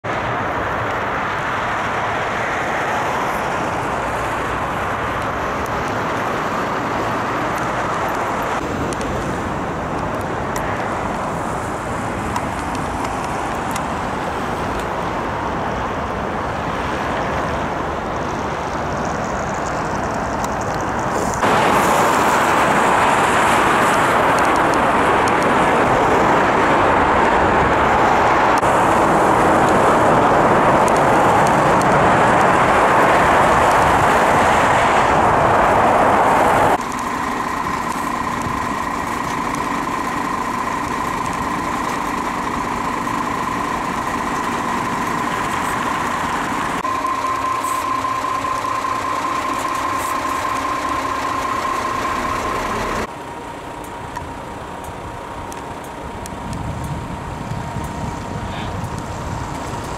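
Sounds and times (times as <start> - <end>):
motorway traffic rush: 0.0 - 59.9.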